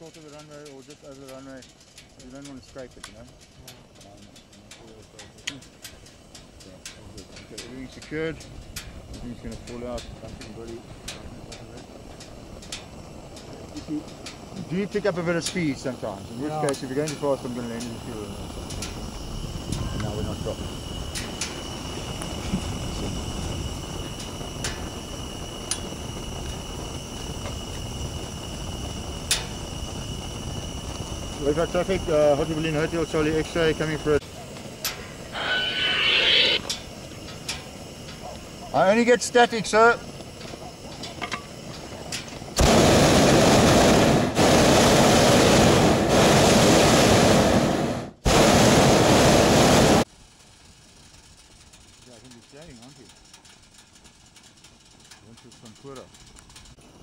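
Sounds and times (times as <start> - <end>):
low rumble and hiss: 0.0 - 45.3, 50.0 - 57.0
faint high whine: 0.0 - 46.1
propane burner blast: 0.0 - 57.0.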